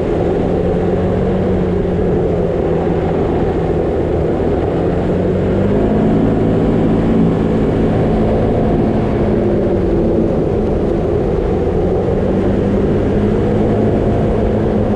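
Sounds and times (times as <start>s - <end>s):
gravel road noise: 0.0s - 14.9s
vehicle engine hum: 0.0s - 14.9s.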